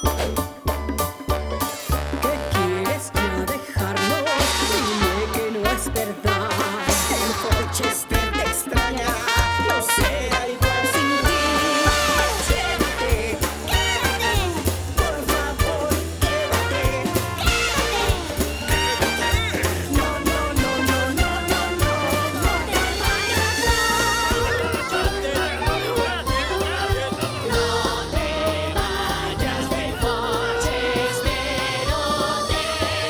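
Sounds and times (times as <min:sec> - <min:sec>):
upbeat music with bass line: 0:00.0 - 0:33.0.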